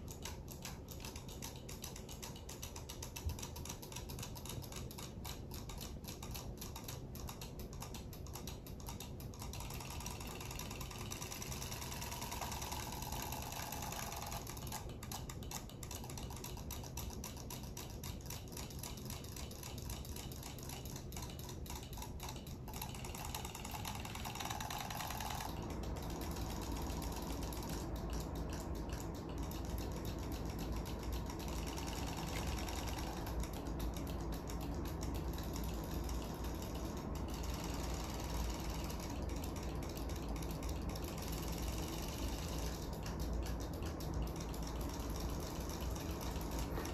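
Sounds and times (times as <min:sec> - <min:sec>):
rapid ticking of tail mechanisms: 0:00.0 - 0:46.9
toy fish motors buzzing: 0:08.4 - 0:46.9.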